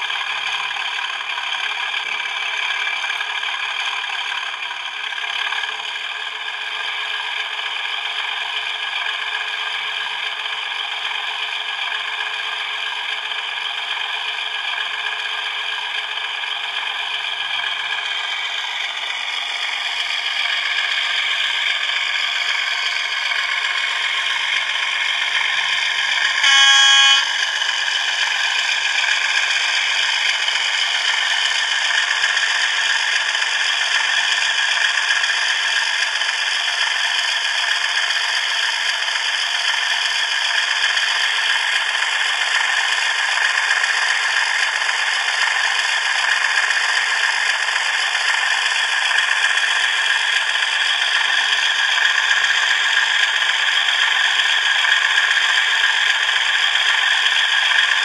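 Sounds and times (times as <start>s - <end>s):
model train whirring on rails: 0.0s - 58.0s.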